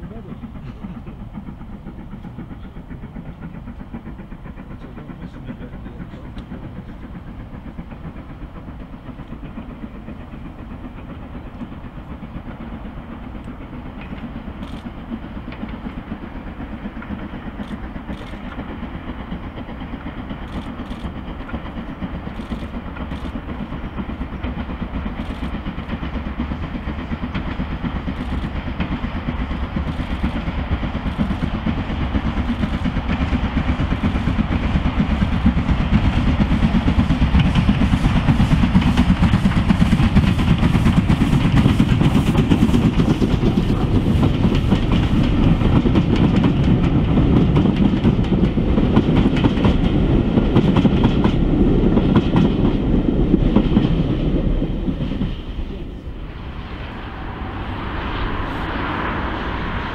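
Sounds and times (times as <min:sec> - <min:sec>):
steam train rumbling: 0:00.0 - 0:59.9.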